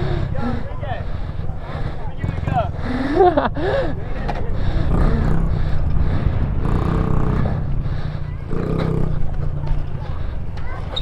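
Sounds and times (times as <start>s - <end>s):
small motorbike engine running: 0.0s - 11.0s.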